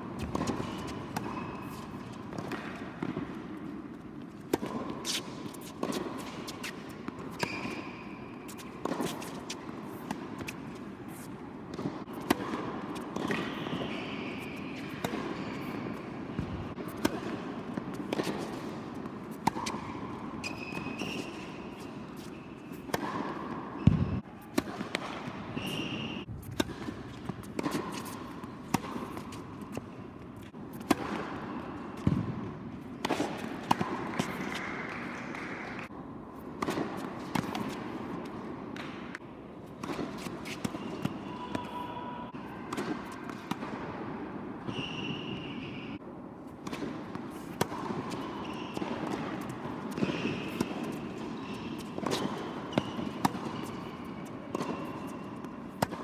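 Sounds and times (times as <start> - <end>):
tennis ball bouncing: 0.0 - 41.6, 42.6 - 44.2, 46.5 - 56.0
racket hitting tennis ball: 0.0 - 56.0.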